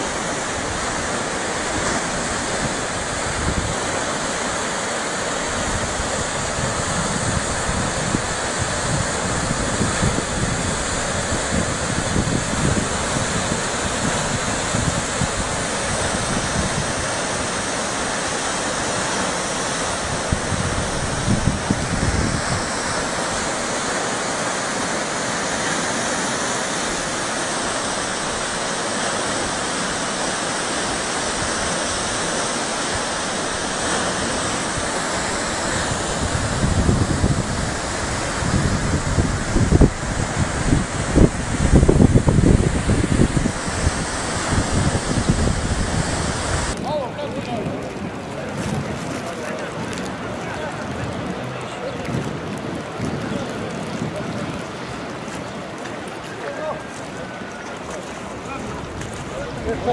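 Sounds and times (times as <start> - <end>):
floodwater rushing: 0.0 - 59.9
wind buffeting microphone: 0.0 - 59.9.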